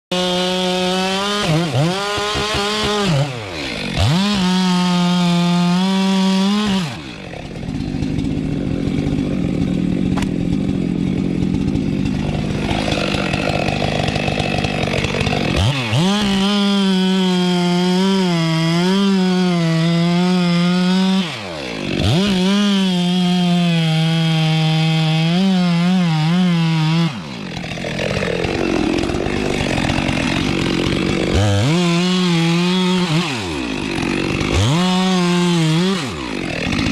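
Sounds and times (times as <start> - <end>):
chainsaw running at high revs: 0.0 - 36.9
chainsaw cutting wood: 0.1 - 36.9.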